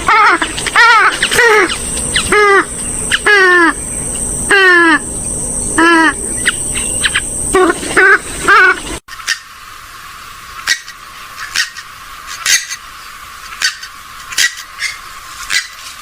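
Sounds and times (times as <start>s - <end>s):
harsh bird calls: 0.0s - 16.0s.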